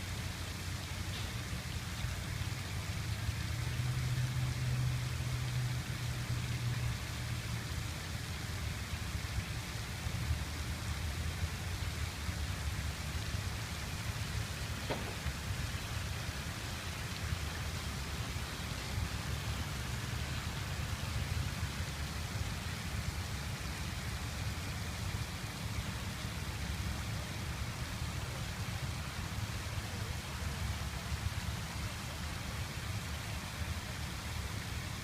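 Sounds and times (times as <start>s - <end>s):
water fountain splashing: 0.0s - 35.0s.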